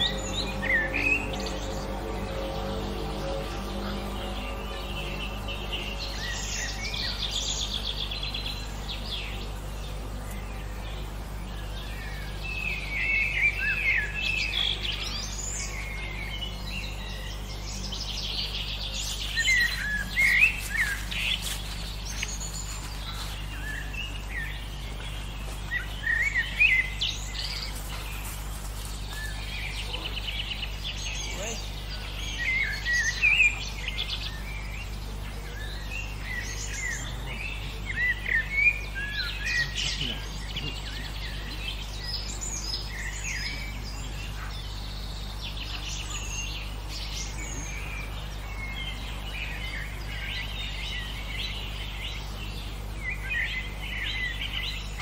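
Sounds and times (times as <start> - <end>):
low background hum: 0.0 - 55.0
songbirds singing and chirping: 0.0 - 55.0.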